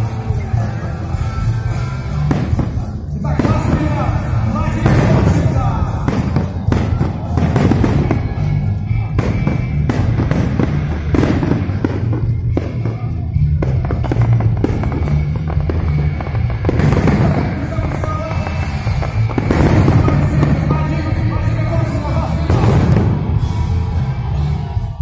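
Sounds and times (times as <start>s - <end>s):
fireworks bangs and crackles: 0.0s - 24.8s
music playing: 0.0s - 25.0s.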